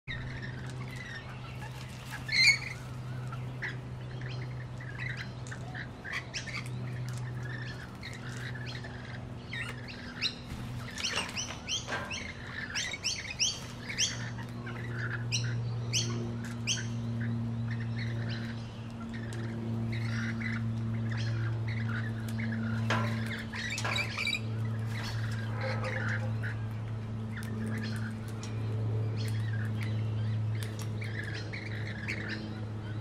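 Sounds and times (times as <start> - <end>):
parrots chirping and squawking: 0.1 - 33.0
steady low hum: 0.1 - 33.0.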